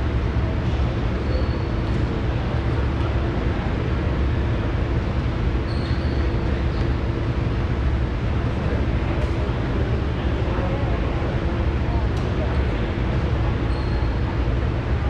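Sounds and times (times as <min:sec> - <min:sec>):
low gymnasium rumble: 0:00.0 - 0:15.0.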